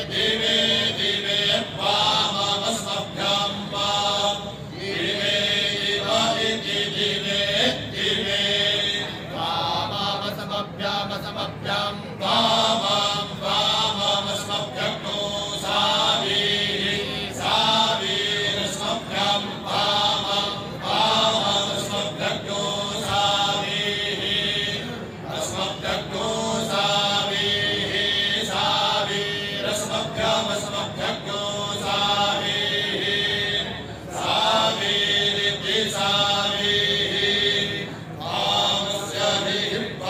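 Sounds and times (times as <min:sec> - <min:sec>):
men chanting in unison: 0:00.0 - 0:40.0.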